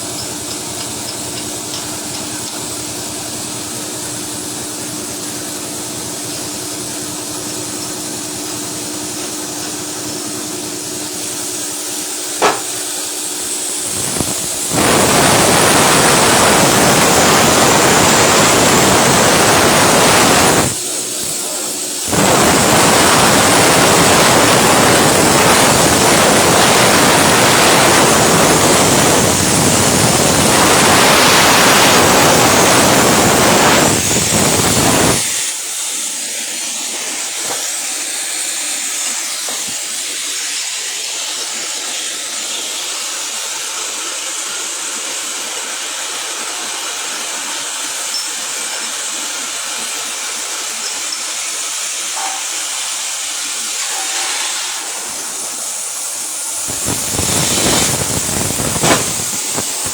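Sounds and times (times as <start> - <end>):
welding arc hissing: 0.0 - 44.8, 47.2 - 59.9.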